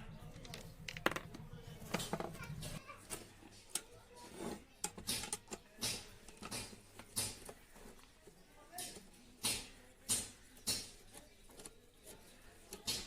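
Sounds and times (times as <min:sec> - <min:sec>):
hand tools clicking and scraping: 0:00.4 - 0:13.0.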